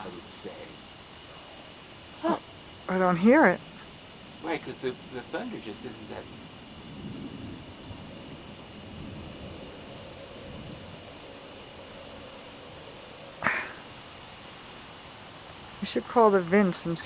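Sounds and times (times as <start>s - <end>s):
night insects chorus: 0.0s - 17.0s.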